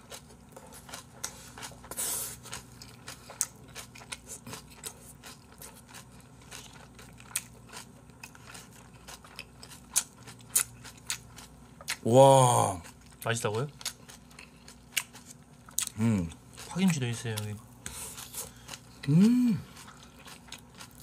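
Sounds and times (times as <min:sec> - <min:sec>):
close-miked crunchy chewing: 0:00.0 - 0:21.0.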